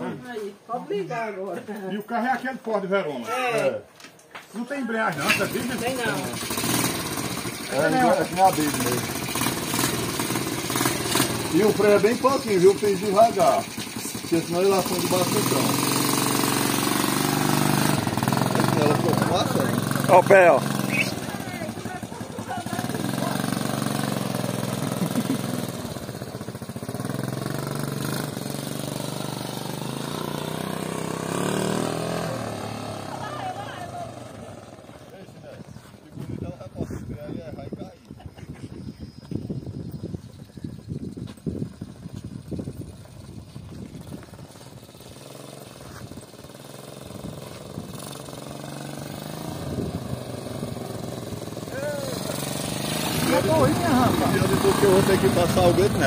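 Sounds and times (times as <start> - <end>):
small motorcycle engine pulling away: 5.0 - 35.6, 39.3 - 56.0.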